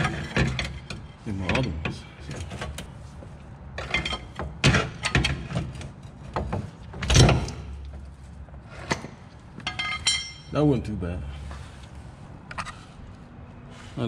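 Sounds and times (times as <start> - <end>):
metal clunks and scrapes: 0.0 - 10.5, 12.4 - 13.2.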